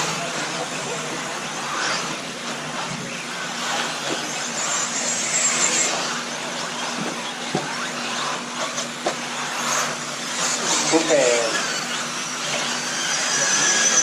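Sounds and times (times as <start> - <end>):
electric motors whining: 0.0 - 14.0.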